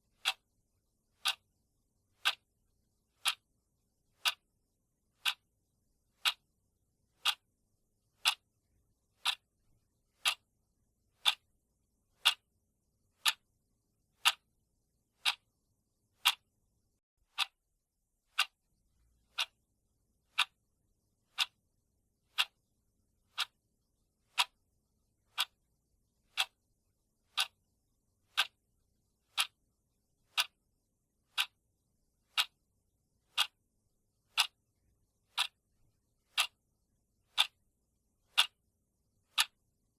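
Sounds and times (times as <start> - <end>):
clock ticking: 0.0 - 3.5, 4.1 - 4.5, 5.1 - 5.5, 6.1 - 10.5, 11.1 - 13.5, 14.1 - 14.5, 15.1 - 16.5, 17.3 - 20.6, 21.2 - 21.6, 22.2 - 23.6, 24.2 - 29.7, 30.3 - 36.7, 37.3 - 39.8.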